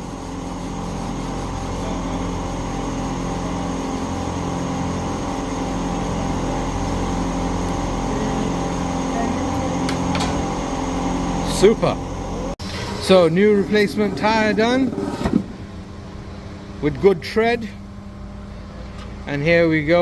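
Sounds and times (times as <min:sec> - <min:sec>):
machine motor humming with pulsing: 0:00.0 - 0:16.8.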